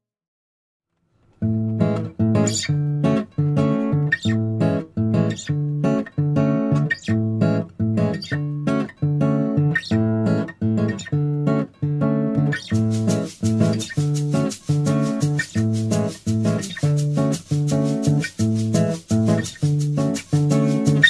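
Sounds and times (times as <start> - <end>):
acoustic guitar strumming chords: 1.4 - 21.0.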